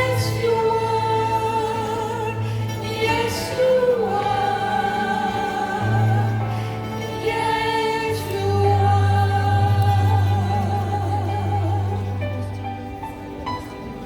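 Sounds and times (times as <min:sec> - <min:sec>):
keyboard chords: 0:00.0 - 0:14.0
voices singing sustained notes: 0:00.0 - 0:14.0.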